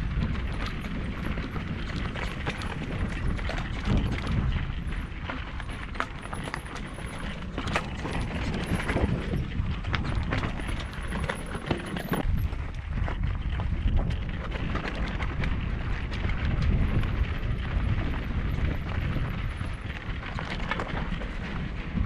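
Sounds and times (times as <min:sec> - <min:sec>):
bike rattling: 0:00.0 - 0:22.0
tyres crunching on loose stones: 0:00.0 - 0:22.0.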